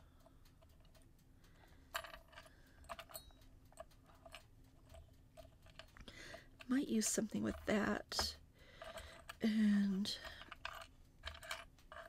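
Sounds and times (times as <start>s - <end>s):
metal charms clinking on wood: 1.9s - 12.0s.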